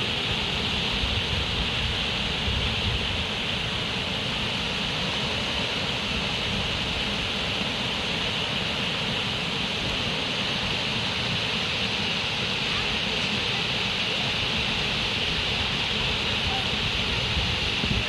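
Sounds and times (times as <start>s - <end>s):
running water rushing: 0.0s - 18.0s.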